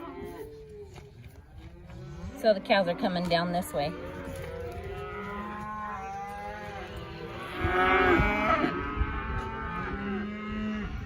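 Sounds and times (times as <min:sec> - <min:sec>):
cattle mooing: 0:01.6 - 0:11.0.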